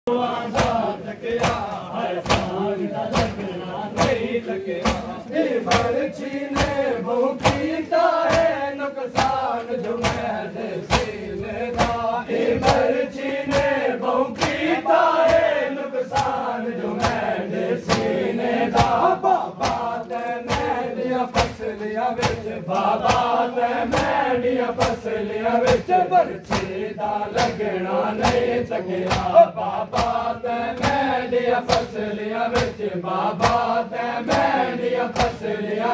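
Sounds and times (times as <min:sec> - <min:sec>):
men chanting together: 0:00.1 - 0:35.9
hands slapping bare chests: 0:00.5 - 0:32.8, 0:33.4 - 0:35.5.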